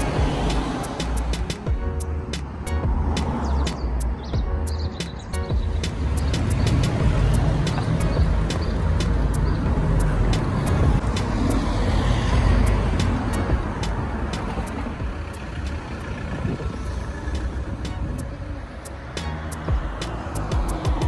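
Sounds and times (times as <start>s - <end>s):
regular ticking beat: 0.0s - 16.2s, 17.3s - 21.0s
background music: 0.0s - 21.0s
road traffic rumbling past: 0.0s - 21.0s.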